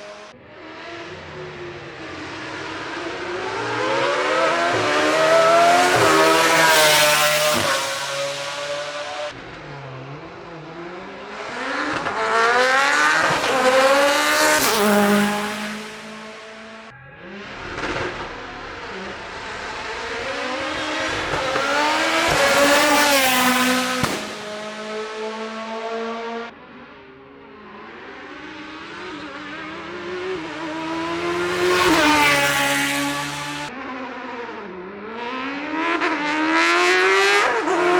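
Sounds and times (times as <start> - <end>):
race car engine accelerating: 0.0 - 37.9.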